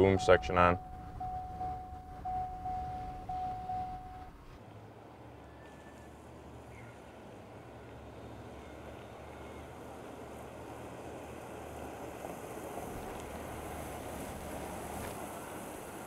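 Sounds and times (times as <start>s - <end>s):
pickup truck engine approaching: 0.0s - 16.0s.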